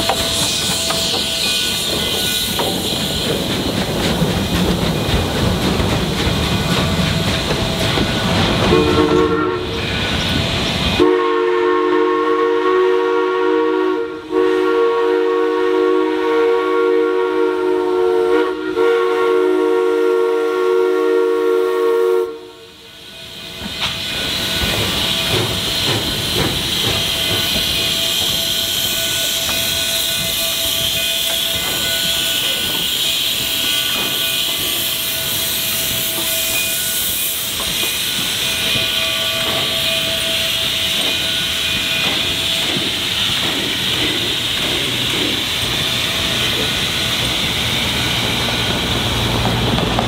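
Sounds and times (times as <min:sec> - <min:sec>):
steam locomotive hissing: 0:00.0 - 0:50.0.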